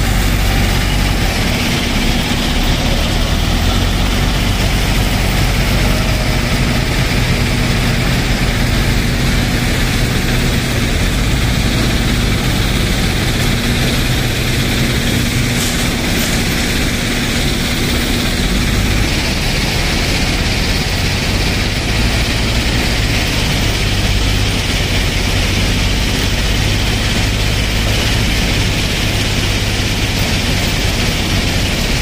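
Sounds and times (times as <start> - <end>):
backhoe diesel engine running: 0.0 - 32.0.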